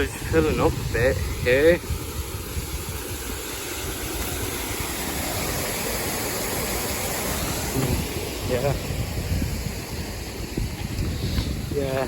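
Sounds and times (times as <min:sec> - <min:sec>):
water pouring into canal: 0:00.0 - 0:11.8.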